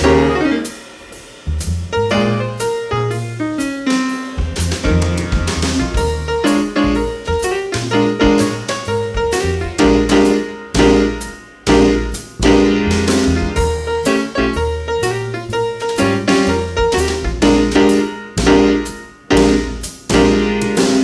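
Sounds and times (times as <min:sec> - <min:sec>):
bass: 0:00.0 - 0:21.0
piano chords: 0:00.0 - 0:21.0.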